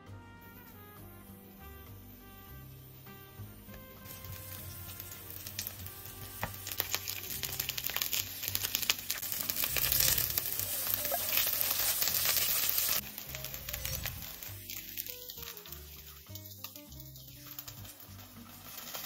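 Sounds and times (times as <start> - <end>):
soft background music: 0.0 - 19.0
food sizzling in a frying pan: 1.5 - 19.0.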